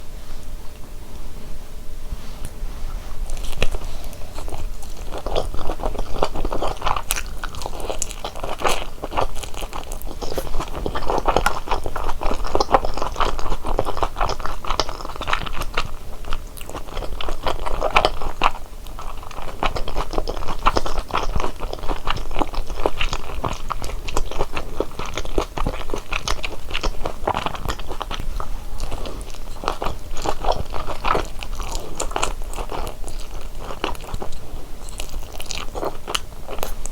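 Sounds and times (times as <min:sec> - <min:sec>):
person chewing dumplings: 0:03.2 - 0:36.9.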